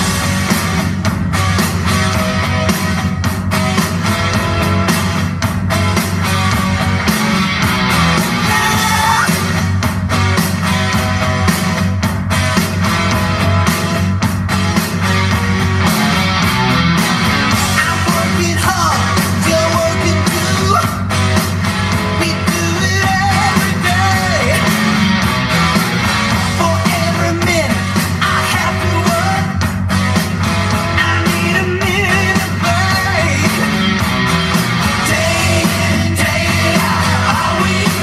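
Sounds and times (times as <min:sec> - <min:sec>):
rock song with singing: 0:00.0 - 0:38.0.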